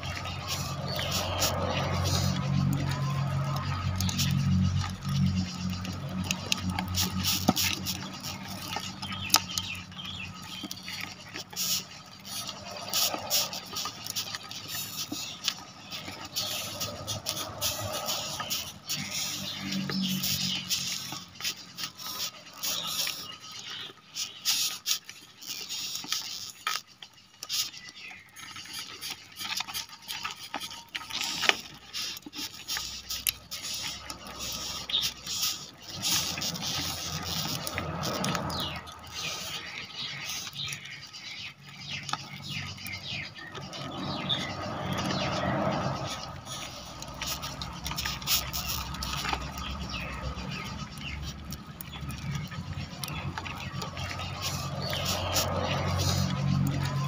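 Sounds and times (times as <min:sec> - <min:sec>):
beetles scratching and squeaking: 0:00.0 - 0:57.0.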